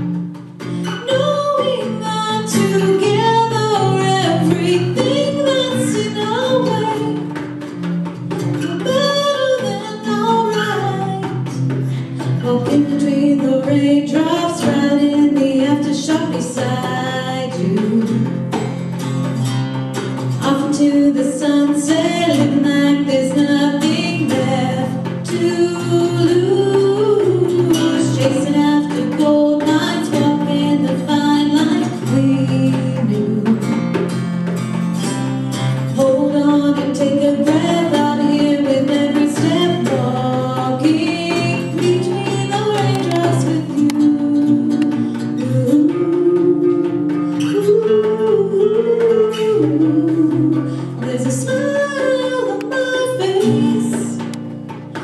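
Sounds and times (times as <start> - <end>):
woman singing: 0.0 - 19.3, 20.0 - 55.0
hand drum beating: 0.0 - 55.0
strummed acoustic guitar: 0.0 - 55.0.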